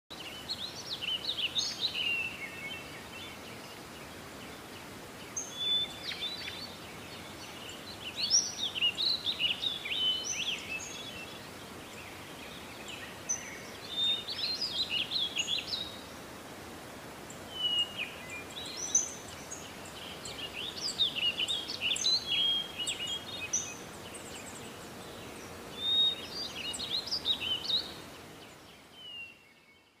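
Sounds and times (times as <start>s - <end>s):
songbirds singing: 0.1s - 30.0s
steady outdoor hiss: 0.1s - 30.0s.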